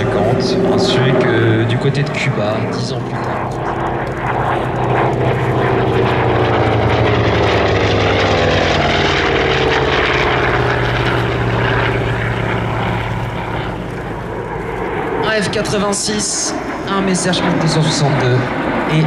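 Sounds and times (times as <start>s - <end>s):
propeller aircraft flypast: 0.0s - 19.0s.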